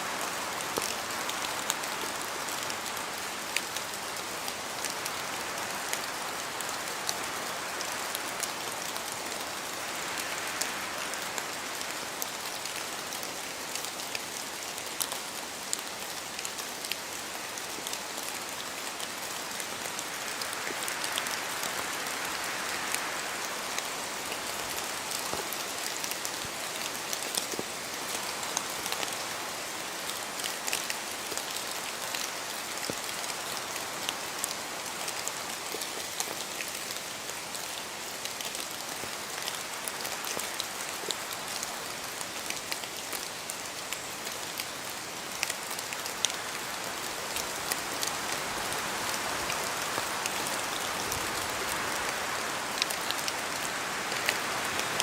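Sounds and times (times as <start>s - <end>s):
steady rain in forest: 0.0s - 55.0s
wind gusts through trees: 0.0s - 55.0s
water drips from trees: 0.1s - 55.0s.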